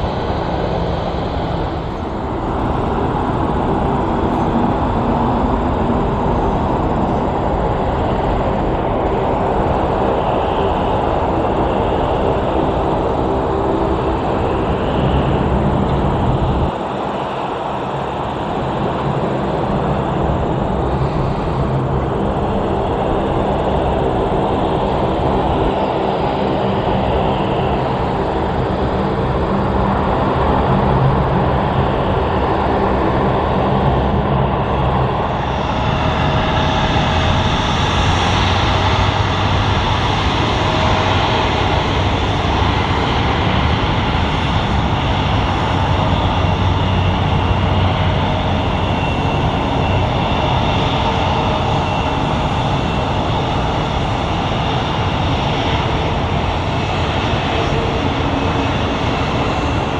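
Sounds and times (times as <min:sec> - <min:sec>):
jet engine whine: 0:00.0 - 0:59.9
turboprop taxiing drone: 0:00.0 - 0:59.9.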